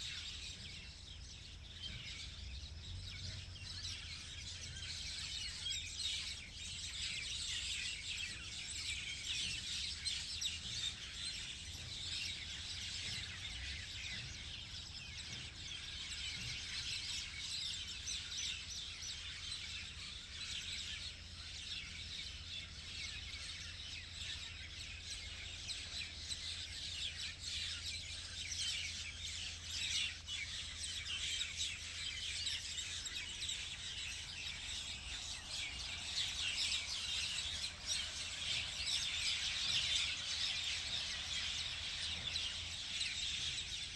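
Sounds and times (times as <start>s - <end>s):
flock of small birds chirping: 0.0s - 43.9s.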